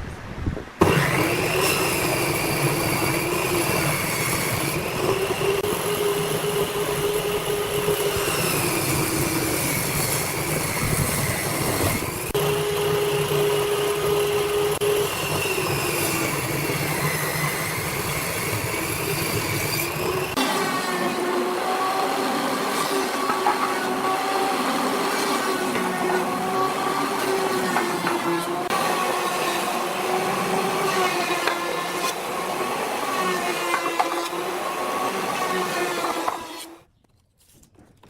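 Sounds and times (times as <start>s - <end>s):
woodworking power tool whining: 0.8s - 36.9s.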